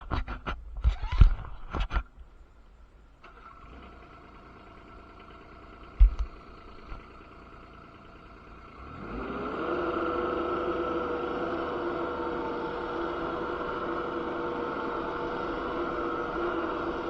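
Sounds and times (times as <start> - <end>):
diesel engine running: 3.3 - 17.0.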